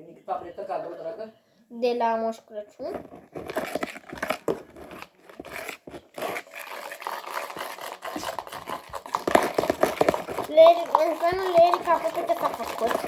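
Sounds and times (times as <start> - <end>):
wet slime squelches: 2.5 - 13.0.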